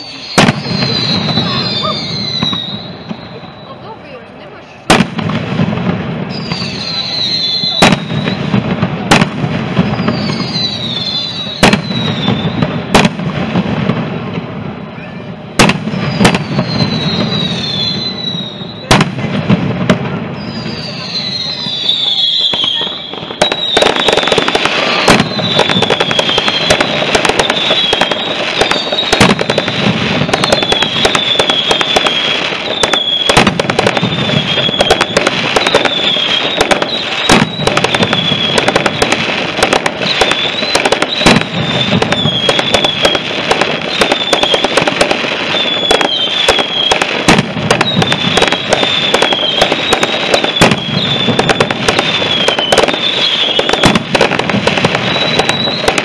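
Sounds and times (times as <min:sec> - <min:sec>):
deep firework booms: 0:00.0 - 0:04.1, 0:04.7 - 0:56.0
rapid firecracker bangs: 0:00.0 - 0:56.0.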